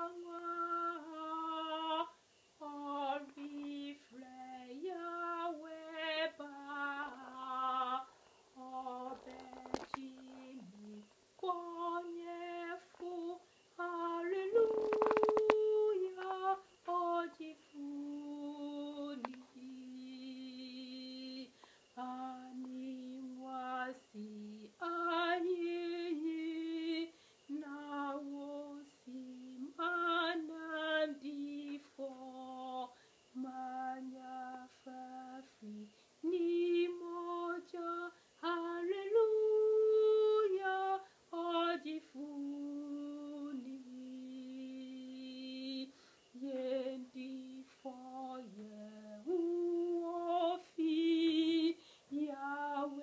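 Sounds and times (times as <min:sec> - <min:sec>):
woman singing a hymn: 0:00.0 - 0:53.0.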